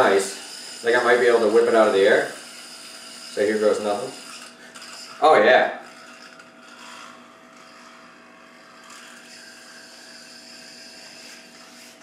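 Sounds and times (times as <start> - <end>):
spinning top whirring: 0.0 - 12.0
steady low hum: 0.0 - 12.0.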